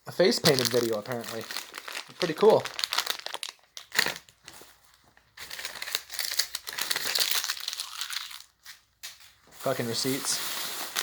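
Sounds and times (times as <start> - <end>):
packaging and paper crinkling: 0.2 - 11.0.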